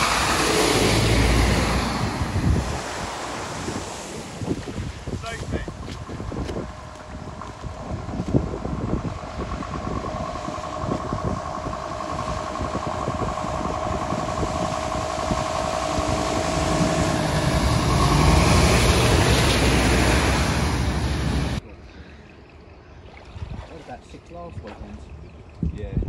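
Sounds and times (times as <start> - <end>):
fire engine diesel engine running: 0.0 - 21.6
water rushing and spraying: 0.0 - 21.6.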